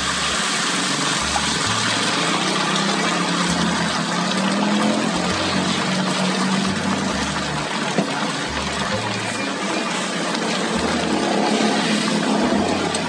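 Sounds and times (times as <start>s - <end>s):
egg sizzling on a griddle: 0.0s - 13.0s.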